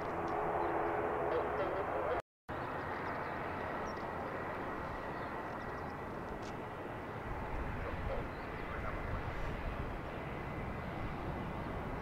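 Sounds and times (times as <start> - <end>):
distant jet engines hissing: 0.0 - 12.0.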